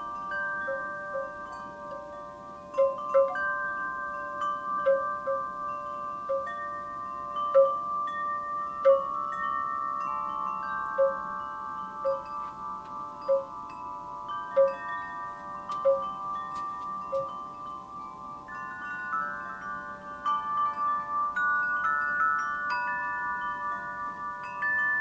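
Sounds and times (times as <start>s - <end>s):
wind chimes ringing: 0.0s - 25.0s.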